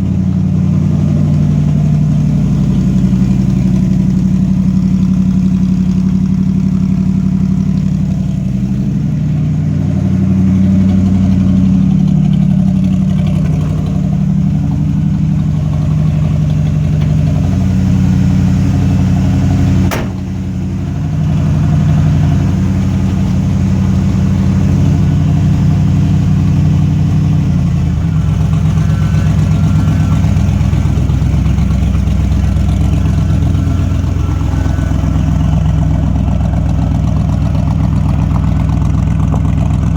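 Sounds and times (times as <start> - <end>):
deep engine exhaust note: 0.0 - 39.9.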